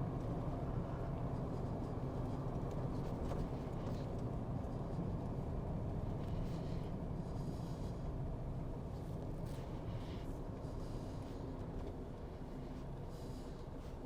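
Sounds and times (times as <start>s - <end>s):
vehicle engine and tyre noise: 0.0s - 14.0s.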